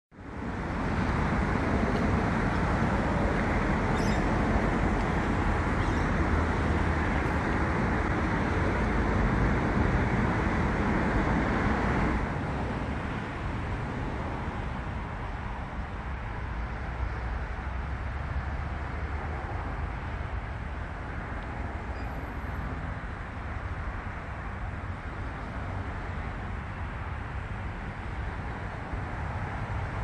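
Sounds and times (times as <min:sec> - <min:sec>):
road traffic hum: 0:00.1 - 0:30.0.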